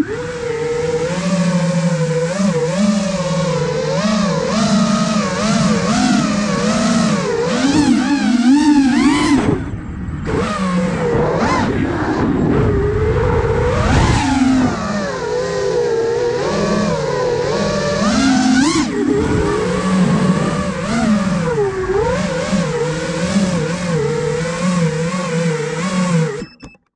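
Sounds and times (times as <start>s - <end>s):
drone motors buzzing whine: 0.0s - 26.9s.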